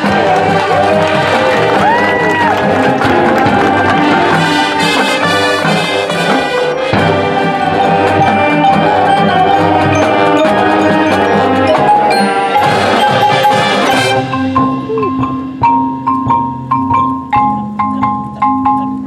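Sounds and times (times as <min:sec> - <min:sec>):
marching band playing: 0:00.0 - 0:18.9.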